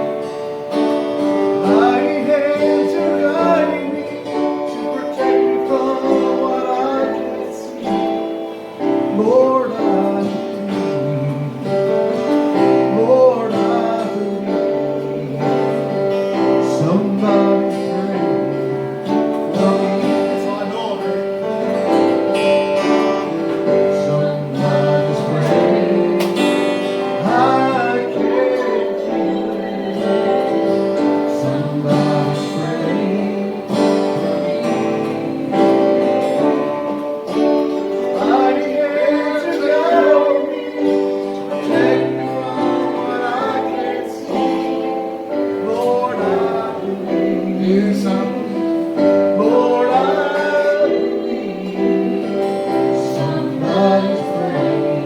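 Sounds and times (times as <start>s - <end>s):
acoustic guitar strumming: 0.0s - 55.0s
voices singing: 0.0s - 55.0s.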